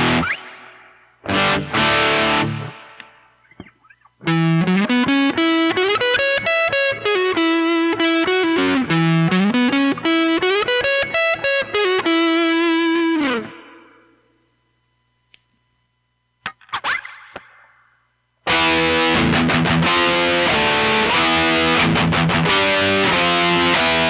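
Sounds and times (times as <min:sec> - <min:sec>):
distorted electric guitar: 0:00.0 - 0:14.2, 0:16.4 - 0:24.0.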